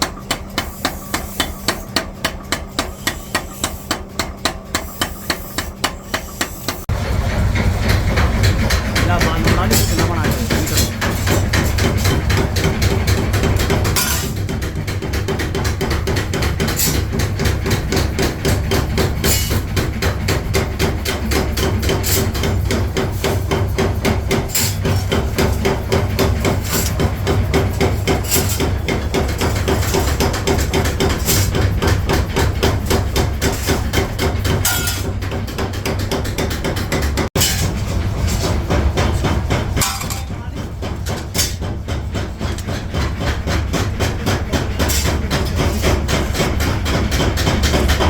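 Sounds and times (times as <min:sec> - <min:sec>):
rapid hammering on steel: 0:00.0 - 0:48.0.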